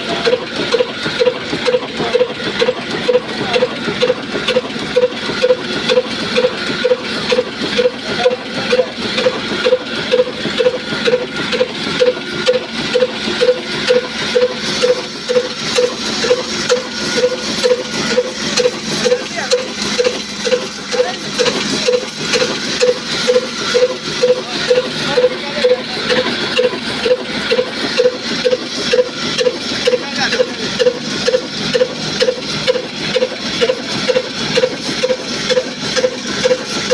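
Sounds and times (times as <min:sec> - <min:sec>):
diesel engine running steadily: 0:00.0 - 0:36.9.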